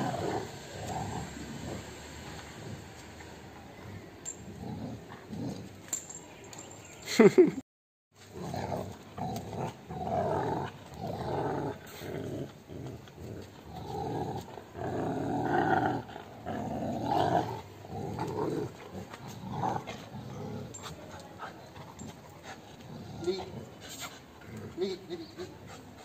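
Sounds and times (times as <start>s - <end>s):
dog growling: 0.0s - 3.0s, 4.4s - 5.7s, 8.3s - 25.6s.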